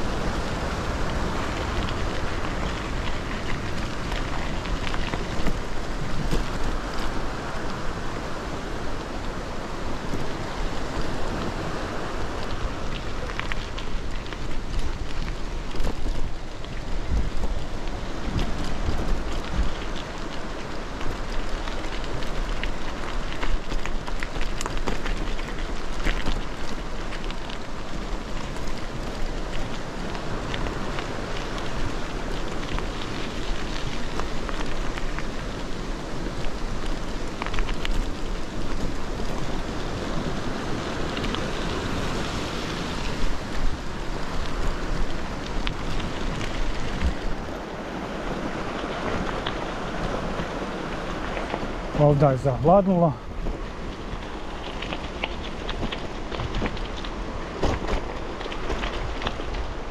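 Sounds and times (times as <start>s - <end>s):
bicycle tyres crunching on gravel: 0.0s - 59.9s
bike rattling: 0.0s - 59.9s
wind on microphone: 0.0s - 59.9s.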